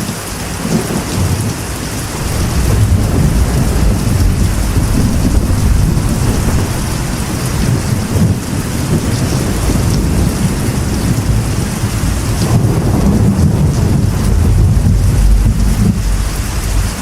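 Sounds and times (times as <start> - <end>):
heavy rain on a metal roof: 0.0 - 17.0
low rumble of thunder: 0.5 - 17.0.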